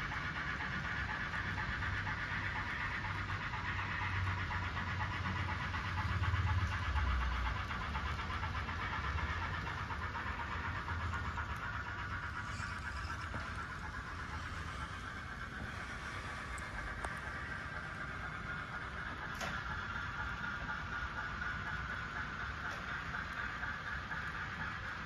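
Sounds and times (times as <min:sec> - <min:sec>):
model train wheels on rail: 0:00.0 - 0:25.0.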